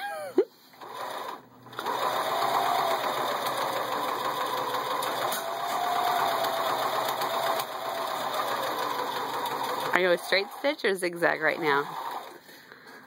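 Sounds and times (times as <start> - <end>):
sewing machine running: 0.8 - 12.4.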